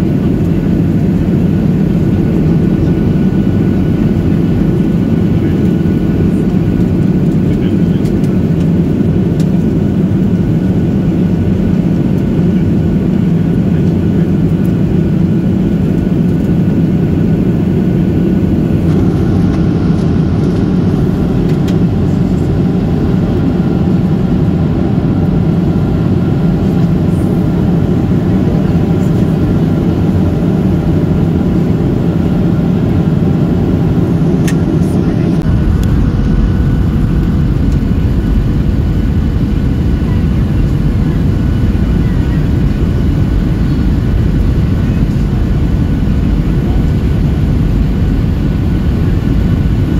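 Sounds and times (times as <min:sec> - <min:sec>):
airplane cabin engine and airflow rumble: 0:00.0 - 0:49.9
deep low rumble: 0:00.0 - 0:49.9.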